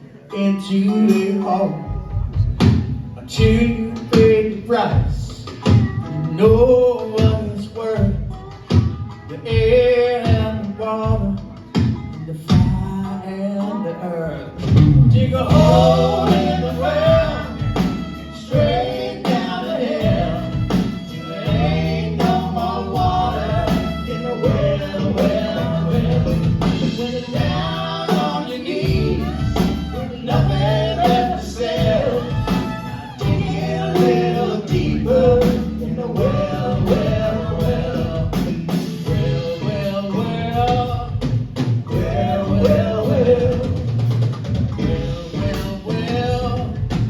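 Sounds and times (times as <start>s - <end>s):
male and female voices singing: 0.0s - 47.0s
live rock band playing: 0.4s - 47.0s
drums keeping steady beat: 1.0s - 13.8s, 14.5s - 47.0s.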